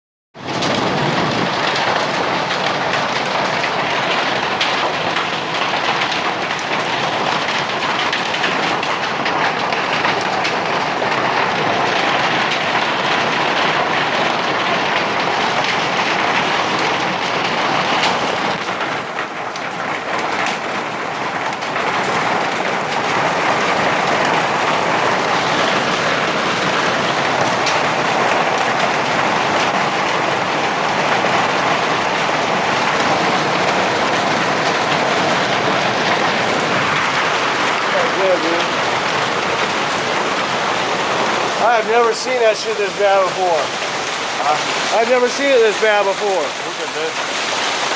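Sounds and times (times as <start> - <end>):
hail and heavy rain pelting: 0.4 - 47.9.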